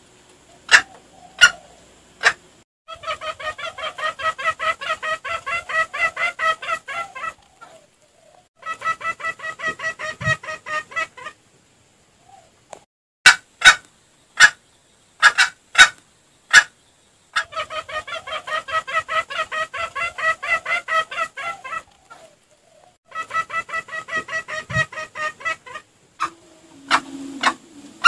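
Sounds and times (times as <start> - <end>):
junglefowl clucking: 0.5 - 11.4, 13.3 - 14.6, 15.2 - 28.0.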